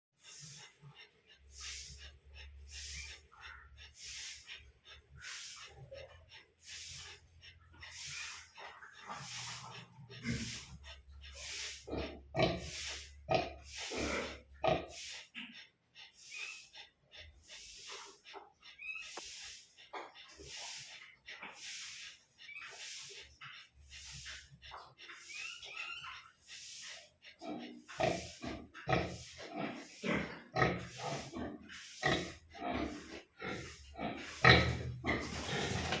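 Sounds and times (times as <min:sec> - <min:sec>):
pigs grunting and snorting: 0:00.2 - 0:36.0.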